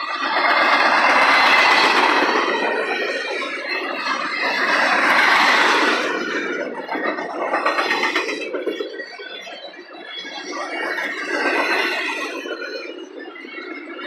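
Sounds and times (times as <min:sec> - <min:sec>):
high wheel squeal: 0:00.0 - 0:14.0
train wheels rumbling on rails: 0:00.0 - 0:14.0.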